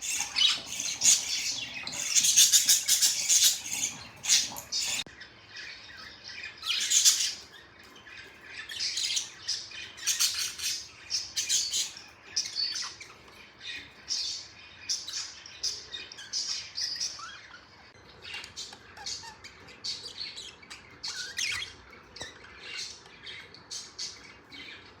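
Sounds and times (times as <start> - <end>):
budgerigars squawking and chirping: 0.0 - 25.0.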